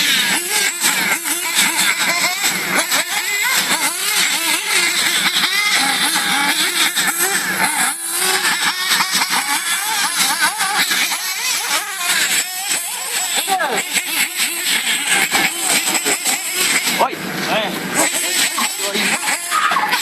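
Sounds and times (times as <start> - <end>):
rc car motors revving: 0.0 - 20.0.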